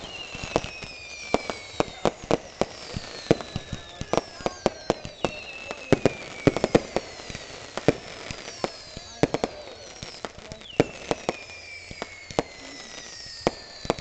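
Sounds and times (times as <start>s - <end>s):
fireworks banging: 0.0s - 14.0s
fireworks whistling: 0.0s - 14.0s.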